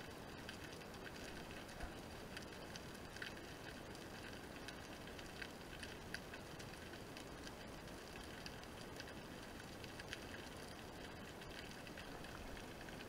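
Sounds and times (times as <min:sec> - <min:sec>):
sharp clicks and crackles: 0:00.0 - 0:13.0
steady underwater hiss: 0:00.0 - 0:13.0.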